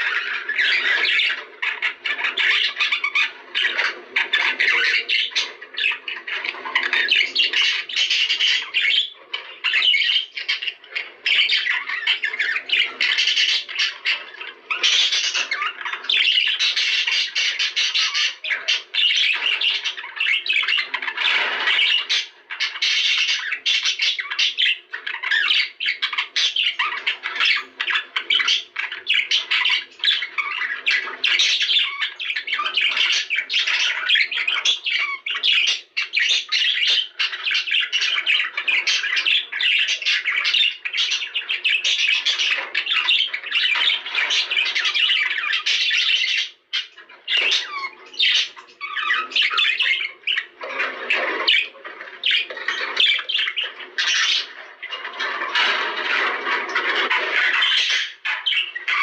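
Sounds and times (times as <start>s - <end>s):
budgerigars chattering and squawking: 0.0s - 59.0s.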